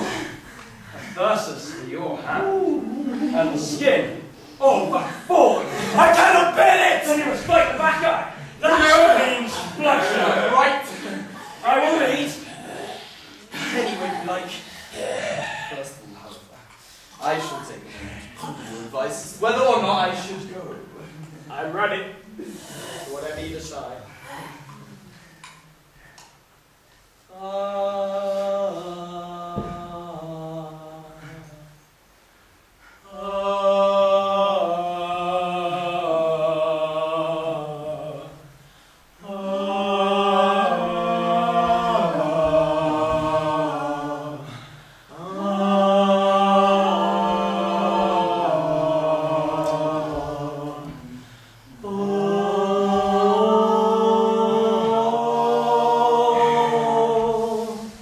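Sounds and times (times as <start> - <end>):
chorus singing a slow chant: 0.0 - 20.5, 27.3 - 31.9, 32.9 - 58.0.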